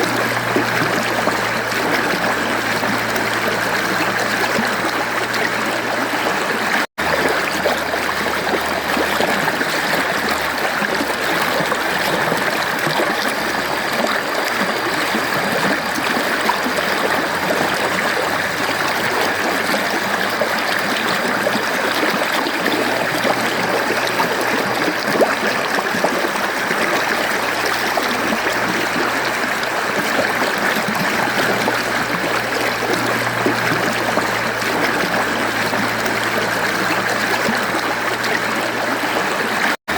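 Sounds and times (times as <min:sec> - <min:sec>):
mountain stream babbling: 0:00.0 - 0:39.9.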